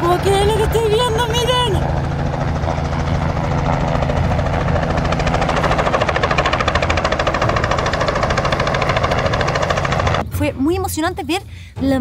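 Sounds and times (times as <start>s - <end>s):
helicopter engine drone: 0.0s - 10.6s
helicopter rotor beating: 0.0s - 11.4s.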